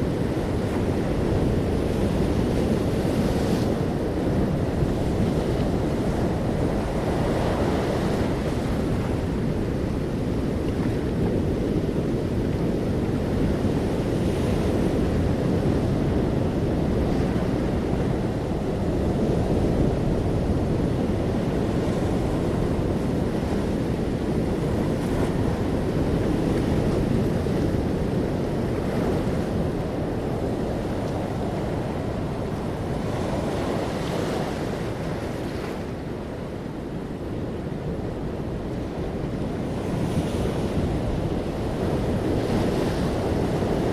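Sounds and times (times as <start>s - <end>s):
sea waves washing in: 0.0s - 43.9s
wind rumbling on microphone: 0.0s - 43.9s.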